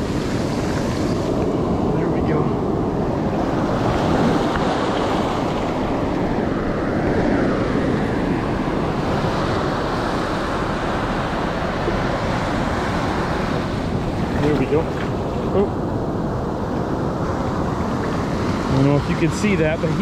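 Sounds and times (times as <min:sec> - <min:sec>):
ocean surf washing: 0:00.0 - 0:20.0.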